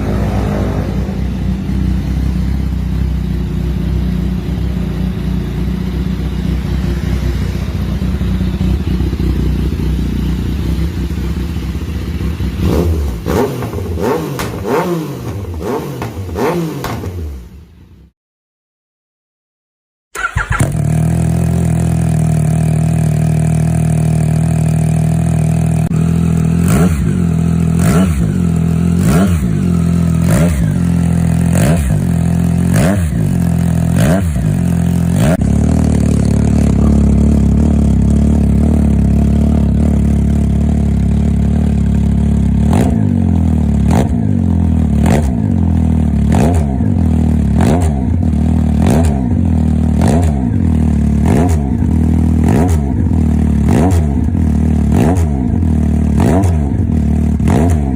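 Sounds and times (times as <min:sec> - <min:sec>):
motorcycle engine idling and revving: 0:00.0 - 0:18.2, 0:20.1 - 0:57.9.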